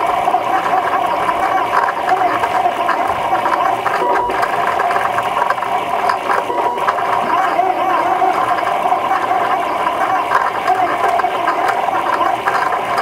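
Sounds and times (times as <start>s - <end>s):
printer stepper motors whining: 0.0s - 13.0s.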